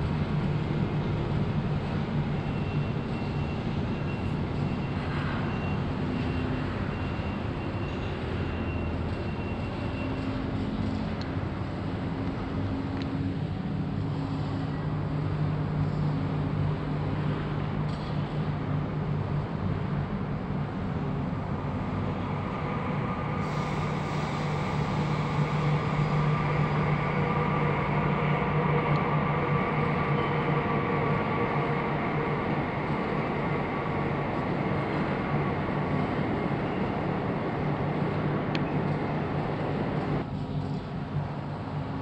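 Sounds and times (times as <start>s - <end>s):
constant rushing noise: 0.0s - 42.0s
low mechanical hum: 0.0s - 42.0s.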